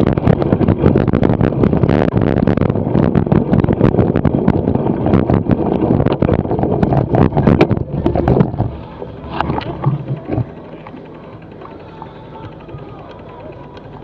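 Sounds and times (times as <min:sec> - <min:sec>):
bike rattling over rough ground: 0:00.0 - 0:14.0
wind rumbling on microphone: 0:00.0 - 0:14.0.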